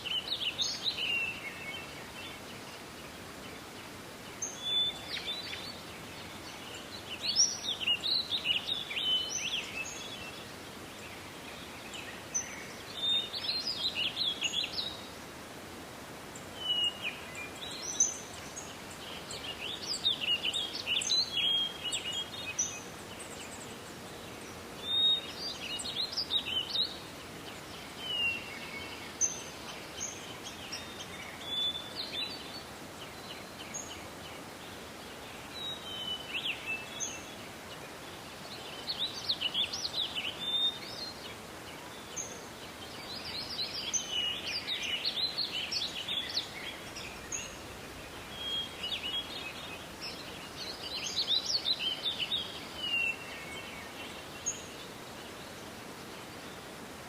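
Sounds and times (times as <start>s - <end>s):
forest background hiss: 0.0s - 57.0s
songbird singing: 0.0s - 57.0s.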